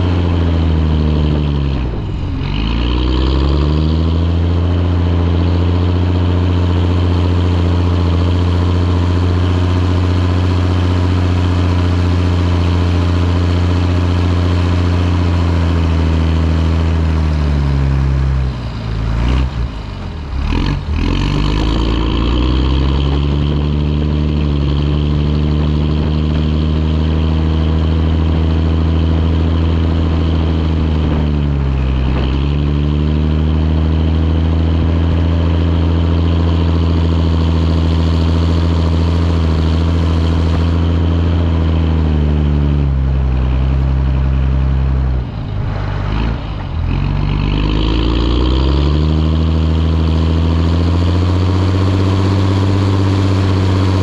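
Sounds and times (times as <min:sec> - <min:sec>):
tractor diesel engine running hard: 0:00.0 - 0:54.0.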